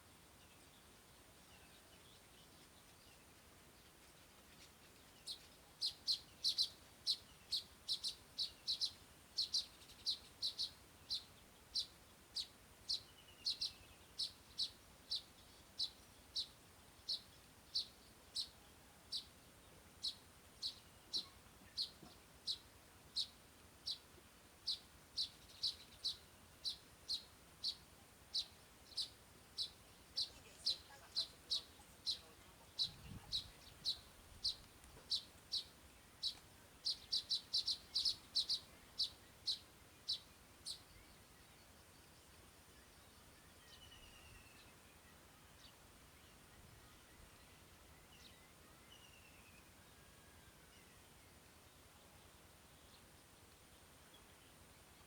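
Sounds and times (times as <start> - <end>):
bird chirping: 1.5 - 19.4, 20.0 - 55.0.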